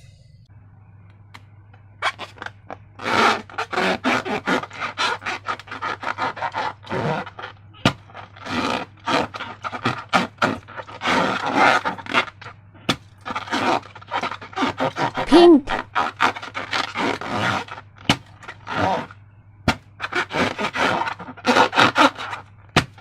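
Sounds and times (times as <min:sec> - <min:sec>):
wet slime scraping and rubbing: 0:02.0 - 0:23.0.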